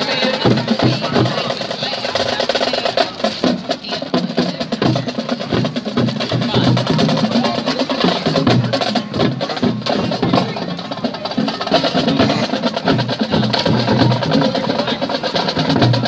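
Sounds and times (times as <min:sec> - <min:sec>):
marching drumline cadence: 0:00.0 - 0:16.0.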